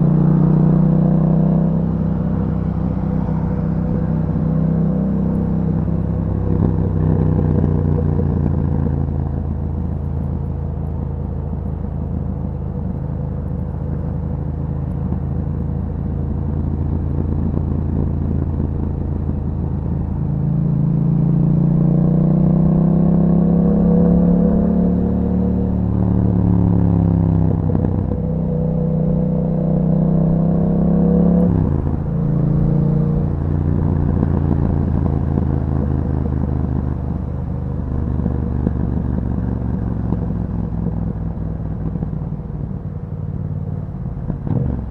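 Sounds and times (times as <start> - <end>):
motorcycle engine rumbling: 0.0 - 44.9.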